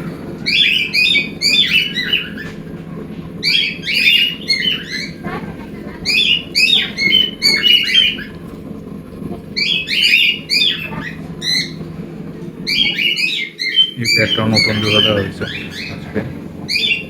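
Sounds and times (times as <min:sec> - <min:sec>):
cockatiels chirping and squawking: 0:00.0 - 0:08.4, 0:09.5 - 0:11.9, 0:12.6 - 0:17.0.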